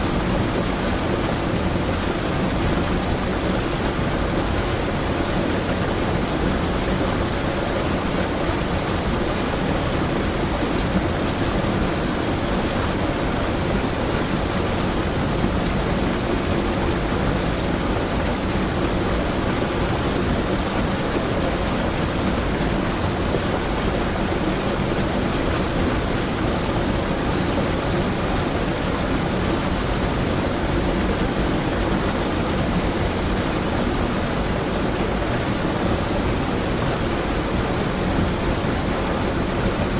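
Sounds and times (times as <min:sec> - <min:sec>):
water rushing over small waterfall: 0:00.0 - 0:39.9.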